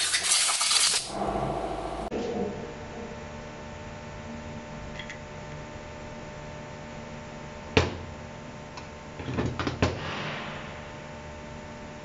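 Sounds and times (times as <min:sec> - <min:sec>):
steady hum: 0:00.5 - 0:09.1, 0:10.0 - 0:12.0.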